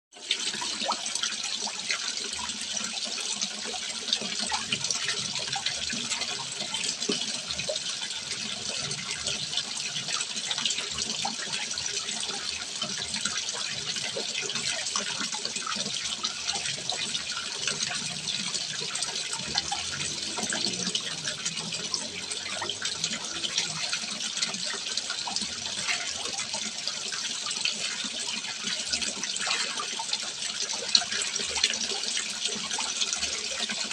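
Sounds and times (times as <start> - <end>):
water splashing into a pond: 0.2 - 33.9.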